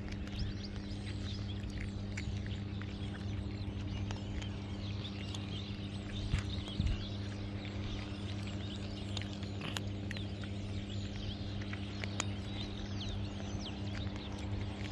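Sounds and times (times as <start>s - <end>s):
birds chirping: 0.0s - 14.9s
cats crunching kibble: 0.0s - 14.9s
steady low hum: 0.0s - 14.9s.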